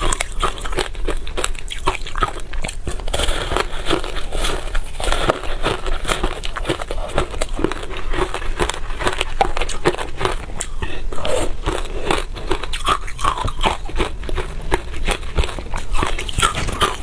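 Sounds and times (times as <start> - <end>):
frost being chewed: 0.0 - 17.0.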